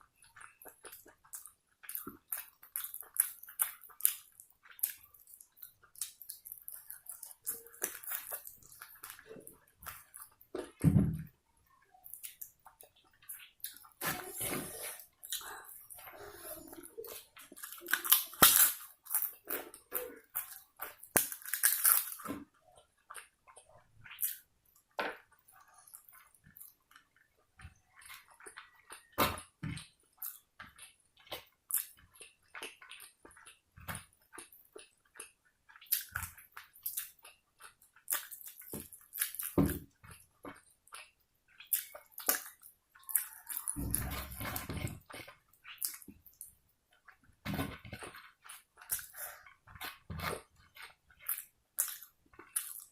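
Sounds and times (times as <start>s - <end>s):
wet crackly chewing: 0.0s - 52.9s.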